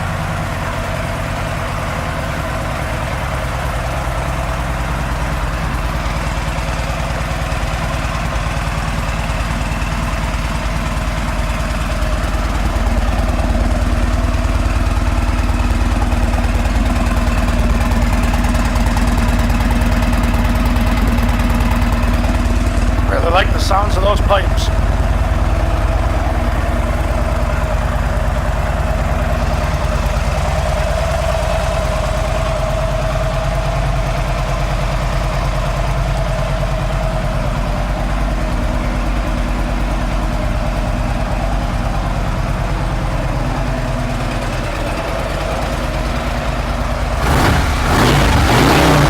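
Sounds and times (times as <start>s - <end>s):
motorcycle engine idling: 0.0s - 49.0s.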